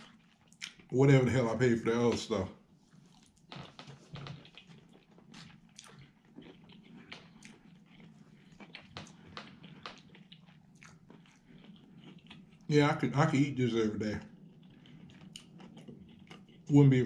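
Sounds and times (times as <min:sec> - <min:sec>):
person chewing food: 0:00.0 - 0:00.9, 0:02.7 - 0:12.7, 0:14.0 - 0:16.8.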